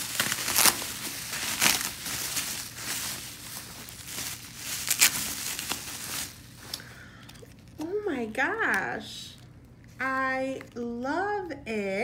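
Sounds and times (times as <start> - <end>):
bubble wrap crinkling: 0.0 - 10.8.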